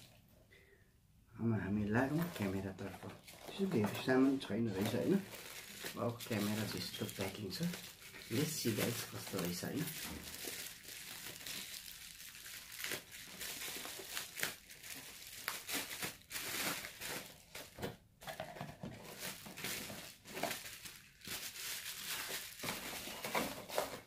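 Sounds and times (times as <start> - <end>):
bubble wrap crinkling: 1.9 - 24.0.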